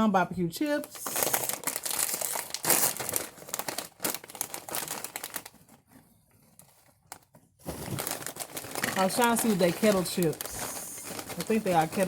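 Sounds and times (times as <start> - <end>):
chip bag crinkling: 0.9 - 5.8, 6.6 - 12.0.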